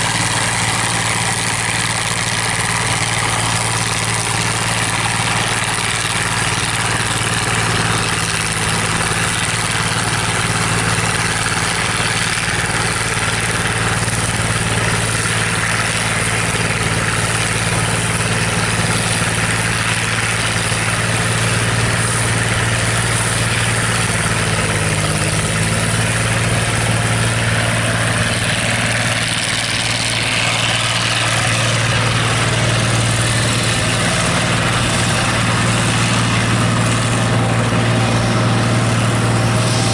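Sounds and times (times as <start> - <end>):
engine hum: 0.0 - 39.9
forage harvester rushing noise: 0.0 - 39.9.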